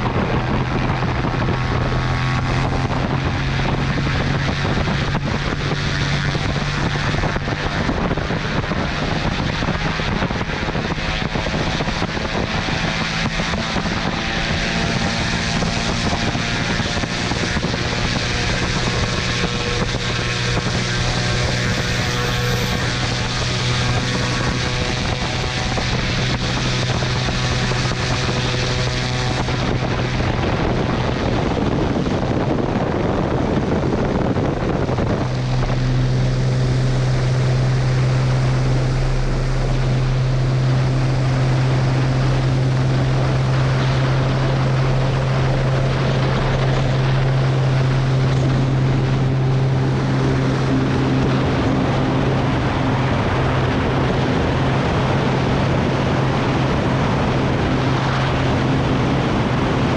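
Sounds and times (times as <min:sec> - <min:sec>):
propeller plane engine drone: 0:00.0 - 0:59.9
wind on microphone: 0:00.0 - 0:59.9.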